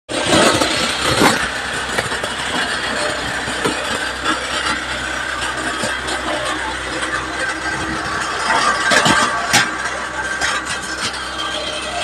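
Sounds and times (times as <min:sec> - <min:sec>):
wood chipper grinding: 0:00.1 - 0:12.0.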